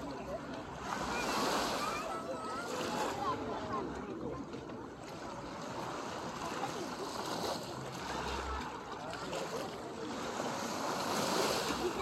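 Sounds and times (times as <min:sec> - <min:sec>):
gentle waves washing ashore: 0:00.0 - 0:12.0
indistinct voices of swimmers: 0:00.0 - 0:12.0.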